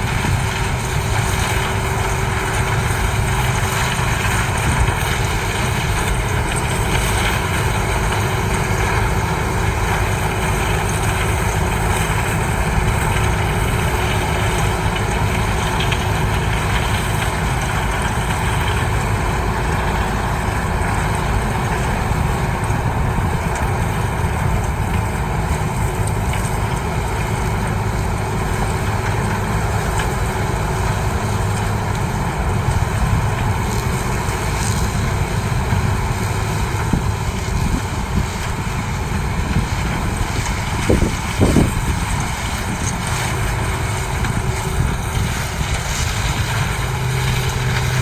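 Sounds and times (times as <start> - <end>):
combine harvester engine drone: 0.0 - 48.0.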